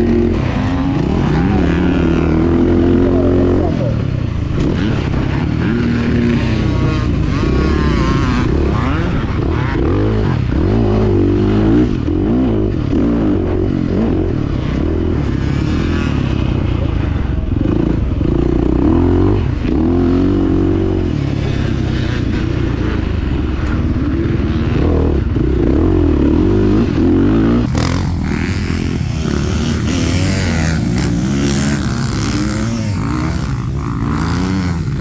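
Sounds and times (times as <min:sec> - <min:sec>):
motocross bike engine revving: 0:00.0 - 0:35.0
motocross bikes passing: 0:00.0 - 0:35.0.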